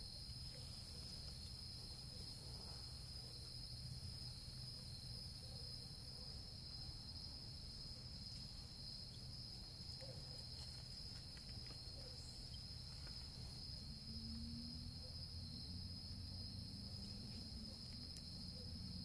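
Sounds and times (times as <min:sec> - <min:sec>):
night insect chorus: 0:00.0 - 0:19.0.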